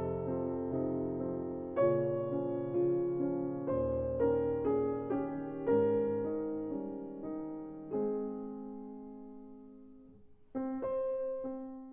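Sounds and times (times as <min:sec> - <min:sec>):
piano music: 0:00.0 - 0:11.9.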